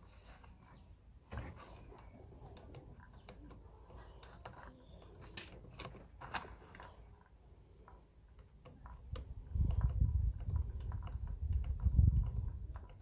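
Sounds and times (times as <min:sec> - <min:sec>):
small parts clicking and tapping: 0:00.0 - 0:13.0.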